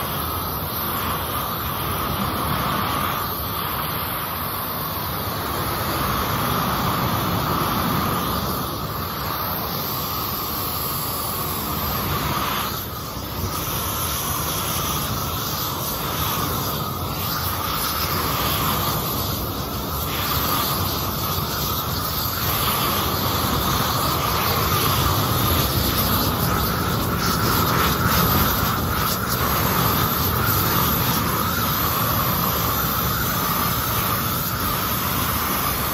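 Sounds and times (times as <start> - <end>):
gas torch hissing: 0.0 - 35.9.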